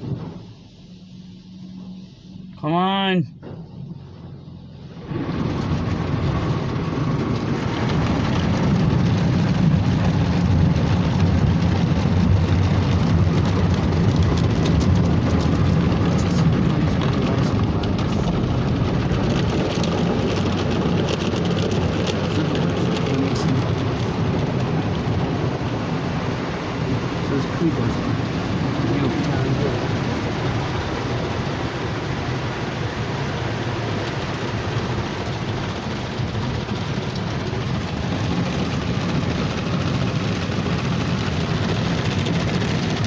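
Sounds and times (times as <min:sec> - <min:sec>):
car wash water spray and machinery: 0:00.0 - 0:43.0.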